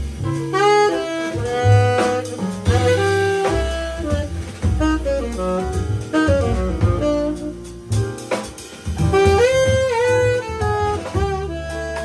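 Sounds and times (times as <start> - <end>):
drum kit: 0.0 - 12.0
piano: 0.0 - 12.0
upright double bass: 0.0 - 12.0
saxophone melody: 0.3 - 8.0, 9.0 - 12.0.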